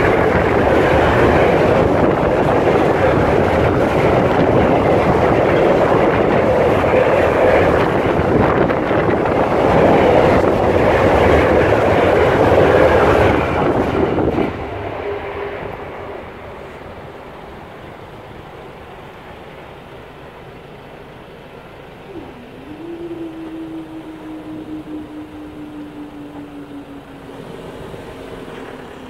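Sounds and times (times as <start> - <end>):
freight train wheels rumbling on rail: 0.0 - 29.0.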